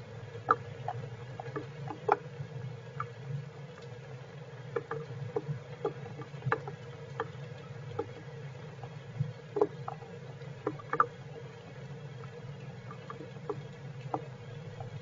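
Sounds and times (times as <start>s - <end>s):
raindrops pattering: 0.0s - 15.0s
steady low hum: 0.0s - 15.0s.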